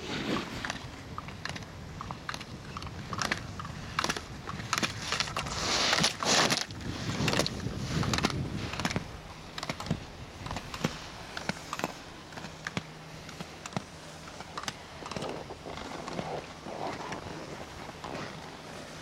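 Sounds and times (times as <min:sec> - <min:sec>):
skis scraping on hard snow: 0:00.0 - 0:00.9, 0:03.3 - 0:19.0.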